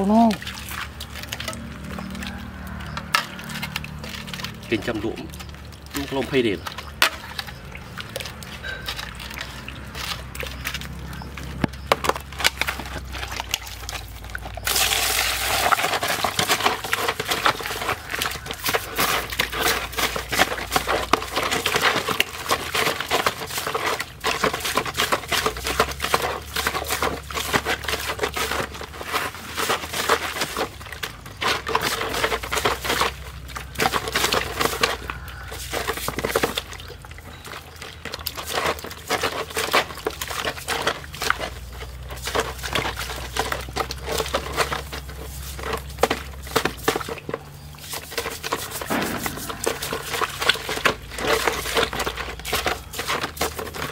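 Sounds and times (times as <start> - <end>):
hands scrubbing in water: 0.0 - 53.9
water splashing and sloshing: 0.0 - 53.9.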